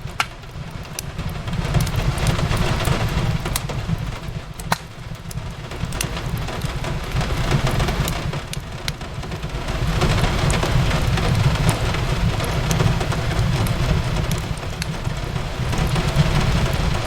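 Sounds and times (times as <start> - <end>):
rain hissing against window: 0.0 - 17.0
wood fire crackling: 0.0 - 17.0.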